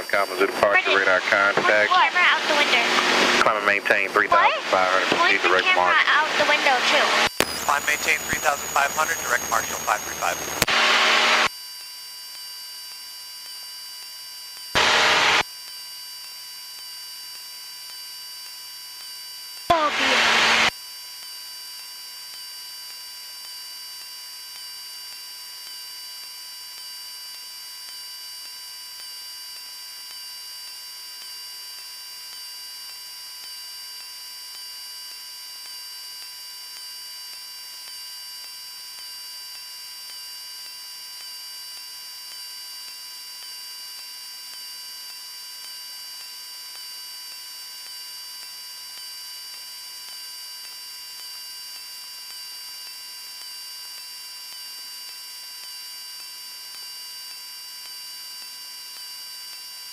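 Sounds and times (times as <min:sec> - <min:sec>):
high-pitched whining tones: 0:00.0 - 0:59.9.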